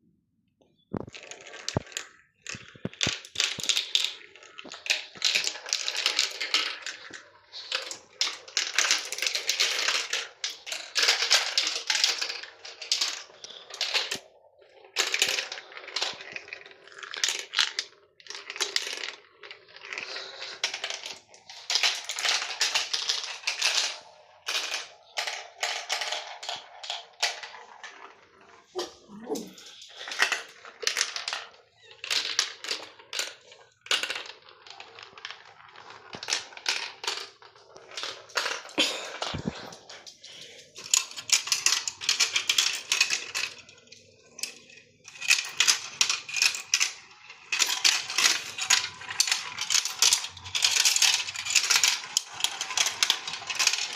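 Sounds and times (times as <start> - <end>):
marbles rattling through plastic track: 0.8 - 53.9.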